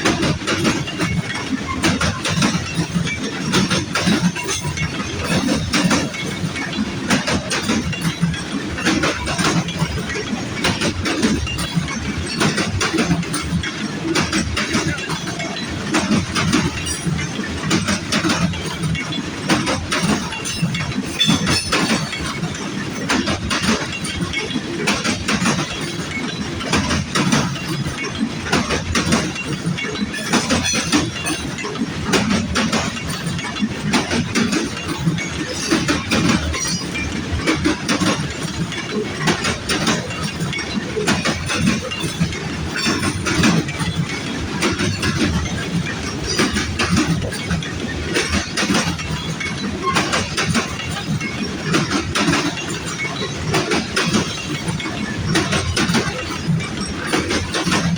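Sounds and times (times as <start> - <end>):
train rumble: 0.0 - 57.9
train wheels clattering on rail joints: 0.0 - 57.9.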